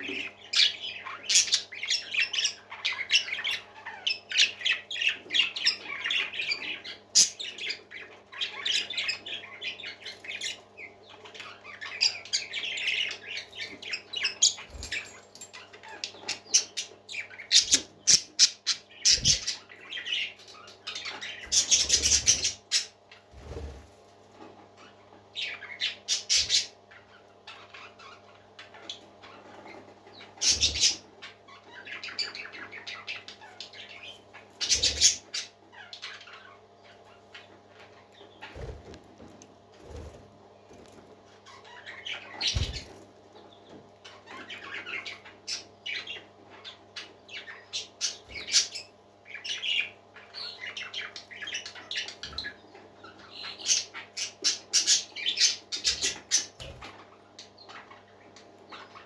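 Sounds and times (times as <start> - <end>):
parakeets chattering: 0.0 - 59.0.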